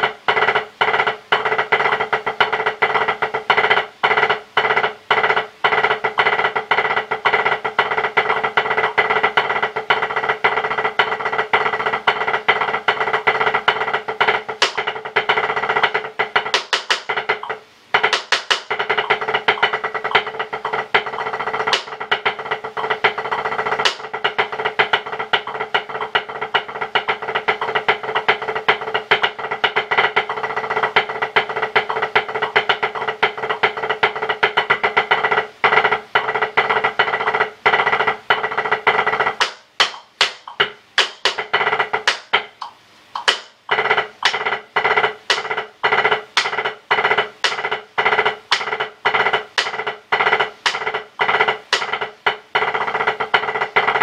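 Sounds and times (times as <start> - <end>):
drumsticks on practice pad: 0.0 - 54.0.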